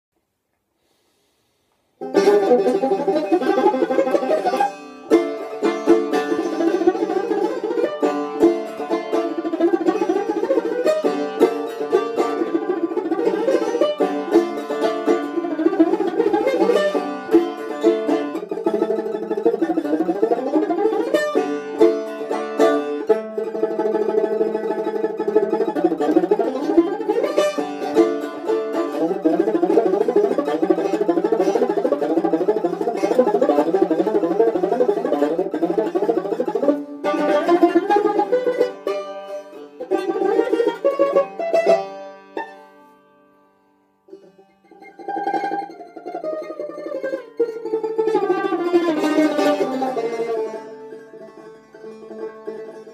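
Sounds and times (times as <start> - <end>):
plucked lute: 2.0 - 52.9.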